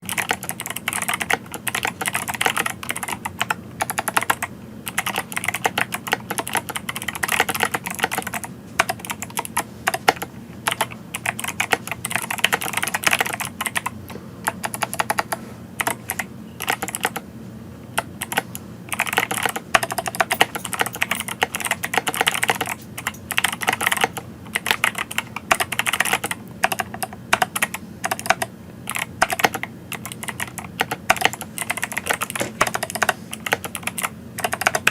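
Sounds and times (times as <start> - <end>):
mechanical keyboard typing: 0.0 - 17.2, 18.0 - 34.9.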